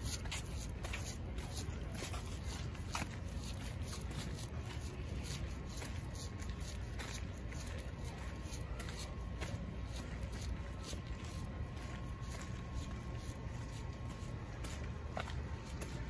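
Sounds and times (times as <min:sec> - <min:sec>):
footsteps clicking: 0:00.0 - 0:16.0
steady low rumble: 0:00.0 - 0:16.0.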